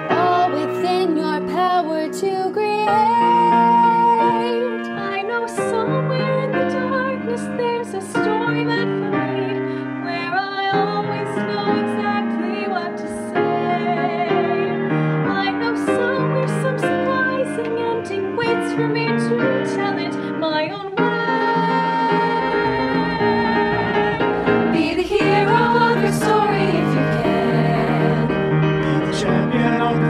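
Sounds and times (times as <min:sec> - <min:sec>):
piano accompaniment: 0:00.0 - 0:30.0.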